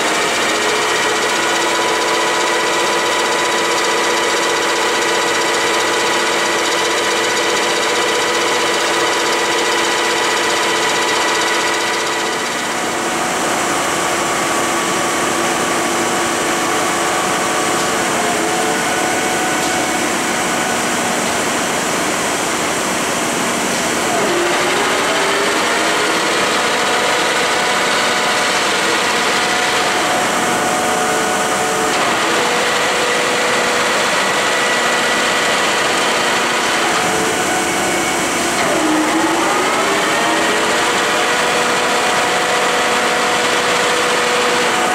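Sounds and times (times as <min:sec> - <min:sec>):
boring mill machine whine: 0:00.0 - 0:44.9.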